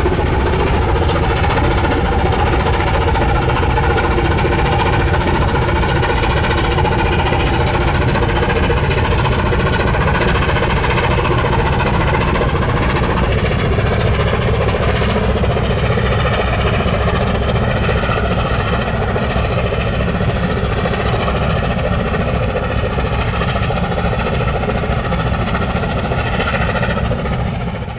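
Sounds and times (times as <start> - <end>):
diesel machinery droning: 0.0 - 27.9.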